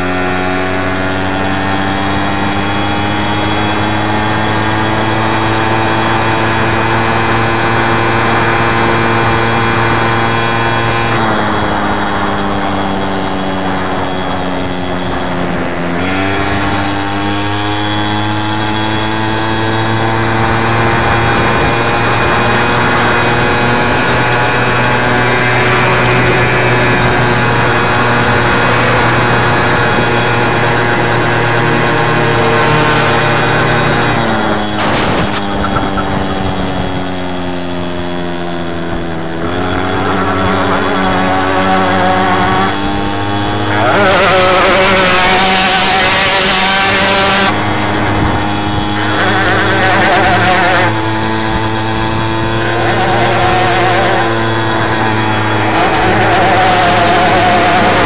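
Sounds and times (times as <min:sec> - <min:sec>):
moped engines buzzing: 0:00.0 - 0:58.0.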